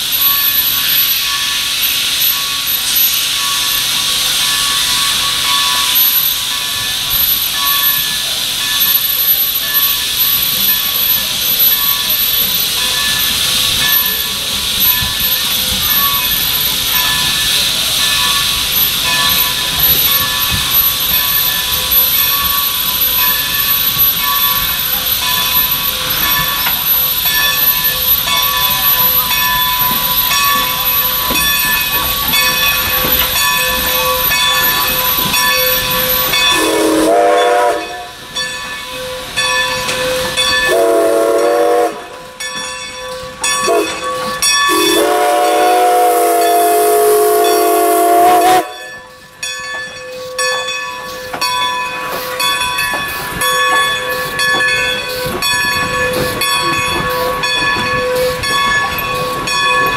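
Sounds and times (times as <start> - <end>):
steam locomotive chime whistle: 0.0 - 59.9
steam locomotive running: 0.0 - 59.9
train cars clacking over rail joints: 0.0 - 59.9.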